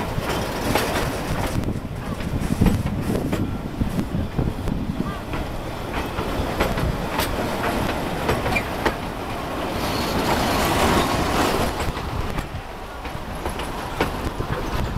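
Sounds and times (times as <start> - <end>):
train wheels clacking on rails: 0.0 - 14.9.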